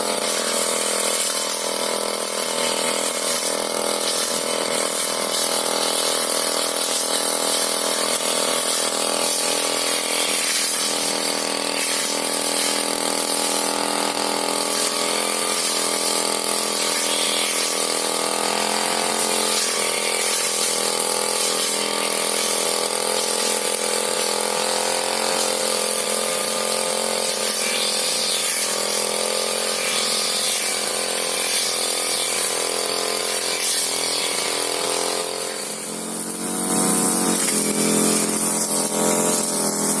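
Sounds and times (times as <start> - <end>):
brush cutter engine running: 0.0 - 40.0.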